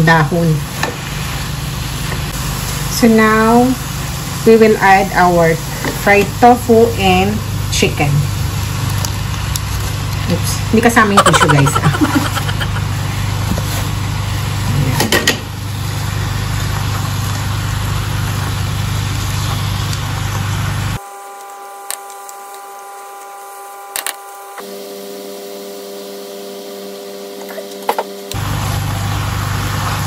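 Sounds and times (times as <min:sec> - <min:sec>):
kitchen hum and hiss: 0:00.0 - 0:30.0.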